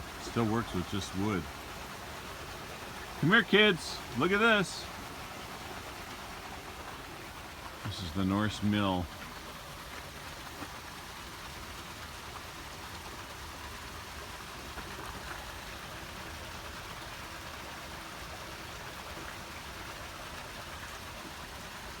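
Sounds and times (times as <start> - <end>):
water rushing and splashing: 0.0 - 22.0.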